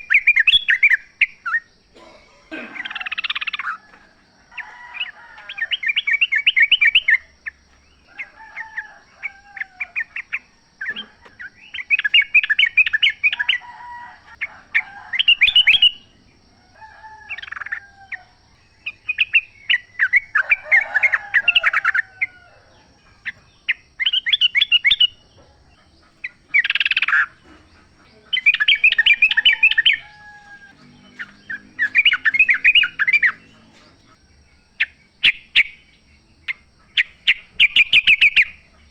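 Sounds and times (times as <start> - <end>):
bulbuls chattering song: 0.0 - 38.9.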